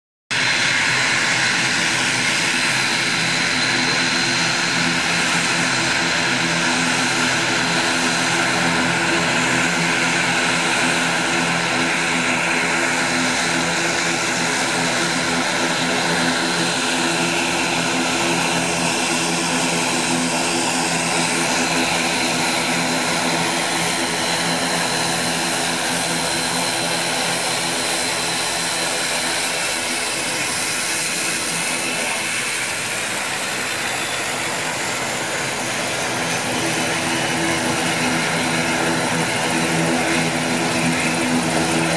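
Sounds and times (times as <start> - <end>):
propeller hum: 0.4 - 41.9.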